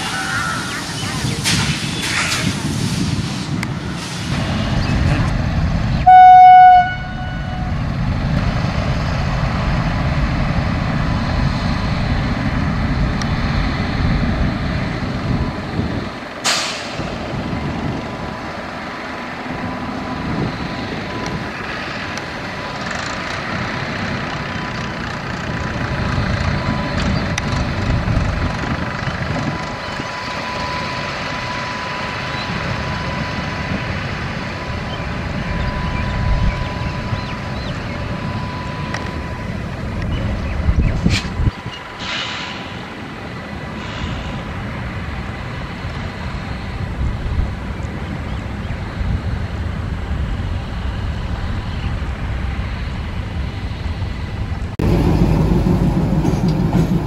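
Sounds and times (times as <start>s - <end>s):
diesel locomotive engine rumble: 0.0s - 57.0s
electric locomotive whine: 0.0s - 57.0s.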